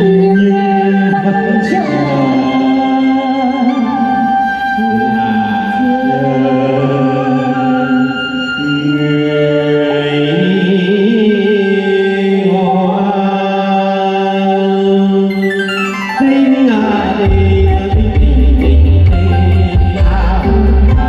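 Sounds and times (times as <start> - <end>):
man singing through loudspeaker: 0.0 - 21.0.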